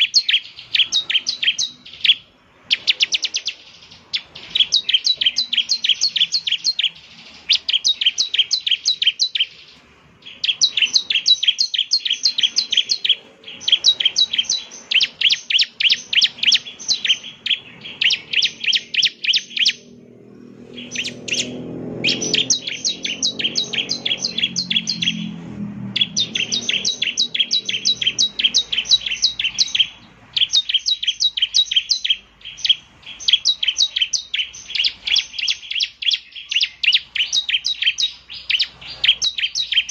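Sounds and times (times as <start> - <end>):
bird singing sharp chirps: 0.0 - 39.9.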